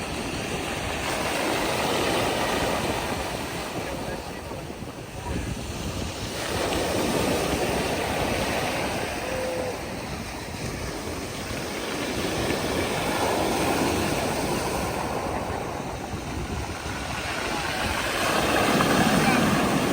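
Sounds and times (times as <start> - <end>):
surf washing onto beach: 0.0 - 19.9.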